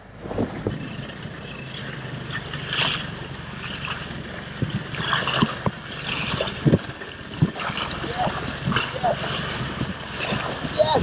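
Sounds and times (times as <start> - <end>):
knocks and rattles over bumps: 0.0 - 11.0
road noise: 0.0 - 11.0
truck engine humming: 0.0 - 11.0.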